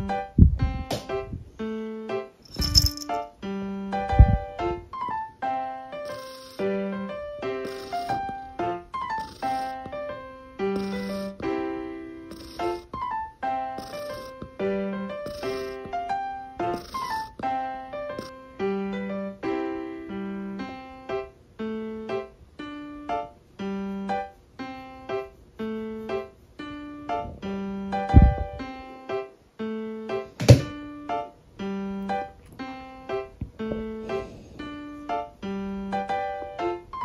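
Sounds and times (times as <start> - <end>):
piano-like keyboard notes: 0.0 - 37.0.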